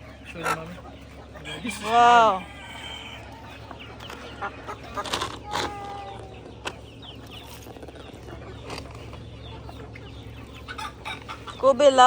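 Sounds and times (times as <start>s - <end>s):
chickens clucking: 0.0s - 12.0s
chicks peeping: 0.0s - 12.0s
drawn-out chicken call: 0.0s - 12.0s.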